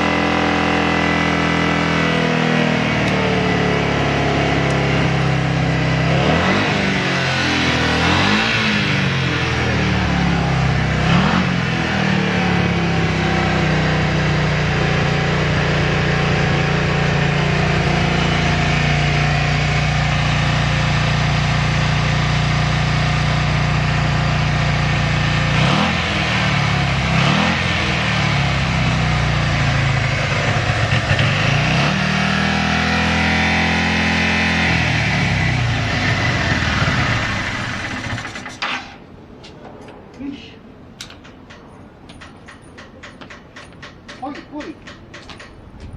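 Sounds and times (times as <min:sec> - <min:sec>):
motorcycle engine idling and revving: 0:00.0 - 0:39.1.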